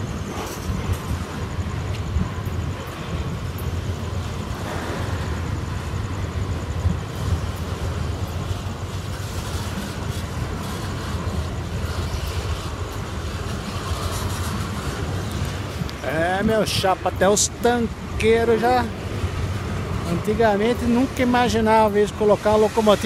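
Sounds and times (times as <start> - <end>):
light clicks of train: 0.0 - 5.9, 6.8 - 18.8, 19.5 - 23.0
steel wheels rumbling on rail: 0.0 - 23.0.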